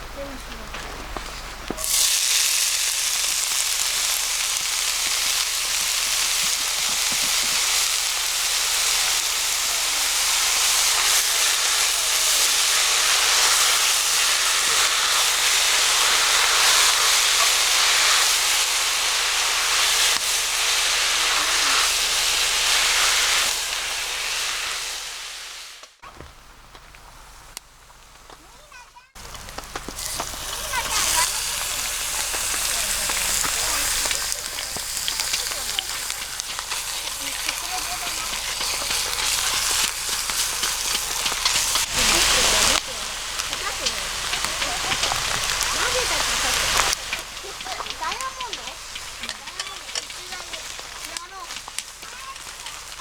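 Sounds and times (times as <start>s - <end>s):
food sizzling in hot oil: 1.0s - 26.0s, 27.2s - 53.0s.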